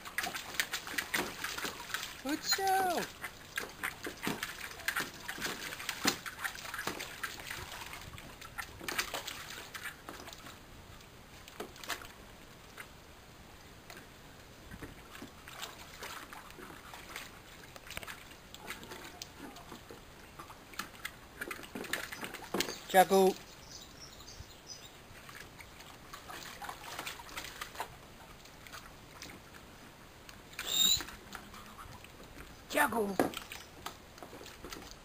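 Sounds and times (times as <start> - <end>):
water splashing in paddling pool: 0.0 - 35.0.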